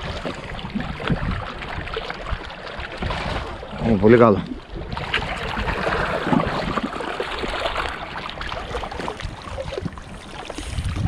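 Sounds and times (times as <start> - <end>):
sea water splashing on rocks: 0.0 - 11.0.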